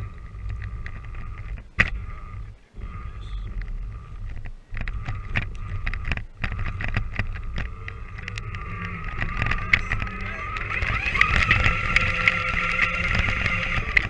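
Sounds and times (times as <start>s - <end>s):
electric motor whining: 0.0s - 14.0s
tyres and chassis clicking: 0.0s - 14.0s.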